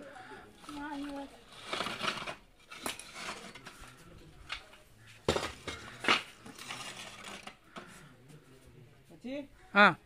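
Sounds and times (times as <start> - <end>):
clay roof tiles clinking: 0.0 - 8.1.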